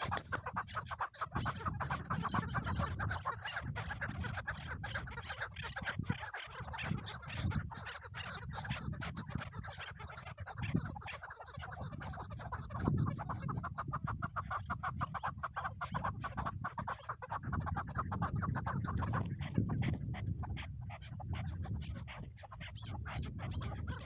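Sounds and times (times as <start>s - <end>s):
partridge clucking calls: 0.0s - 24.0s.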